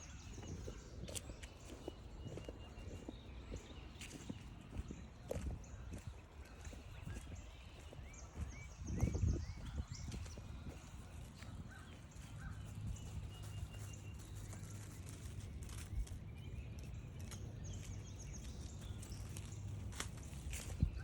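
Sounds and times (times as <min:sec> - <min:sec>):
footsteps on forest trail: 0:00.0 - 0:21.0
songbirds calling: 0:00.0 - 0:21.0.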